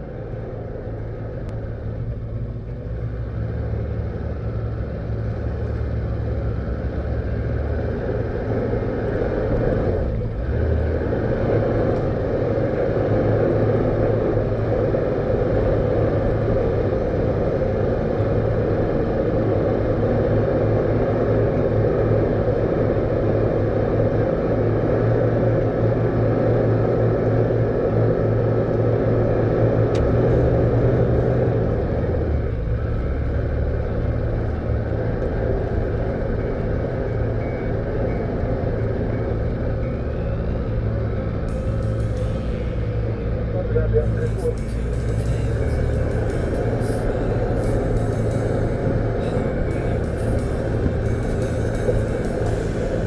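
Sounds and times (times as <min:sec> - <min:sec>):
low rumble with held tones: 0:00.0 - 0:53.0.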